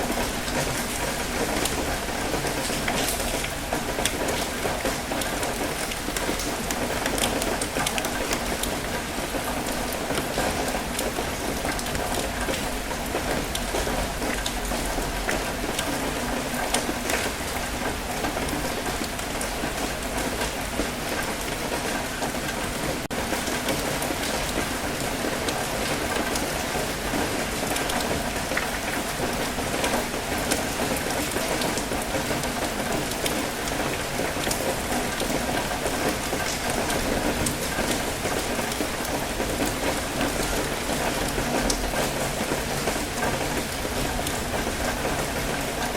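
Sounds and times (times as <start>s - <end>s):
rain drops ticking: 0.0s - 45.9s
steady rain: 0.0s - 45.9s.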